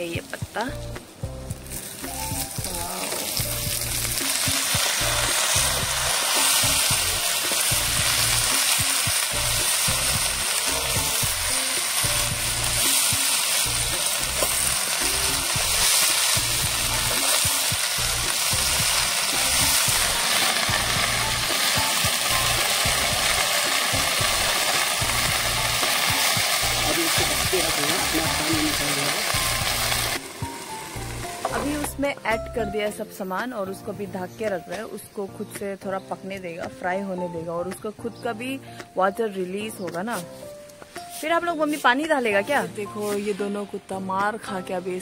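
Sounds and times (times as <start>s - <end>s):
meat and leaves sizzling in a wok: 0.0s - 32.5s, 39.7s - 45.0s.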